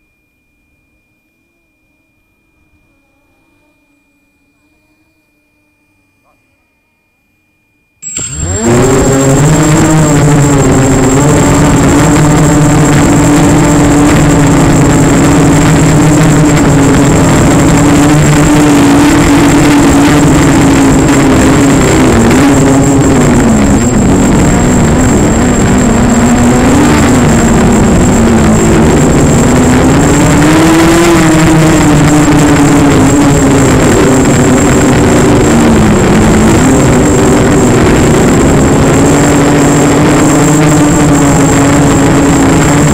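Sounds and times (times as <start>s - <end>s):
thin high whine: 0.0s - 42.9s
model aircraft motor and propeller: 8.0s - 42.9s.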